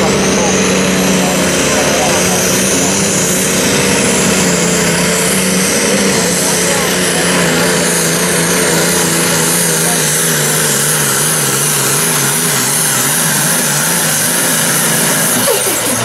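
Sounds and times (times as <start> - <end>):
tractor diesel engine at full throttle: 0.0 - 16.0.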